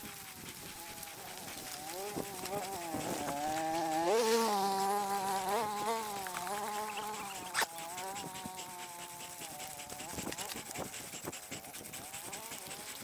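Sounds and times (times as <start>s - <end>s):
insect buzzing: 0.0s - 13.0s.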